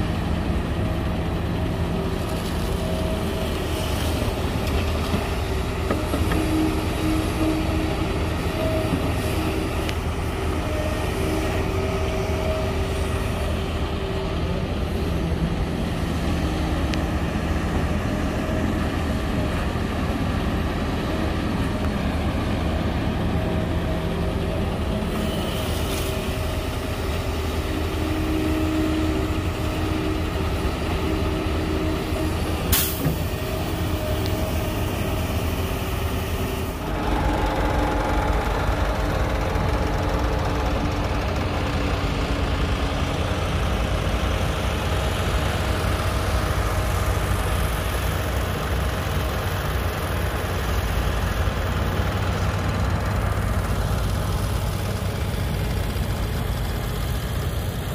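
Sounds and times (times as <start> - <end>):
excavator diesel drone: 0.0 - 57.9.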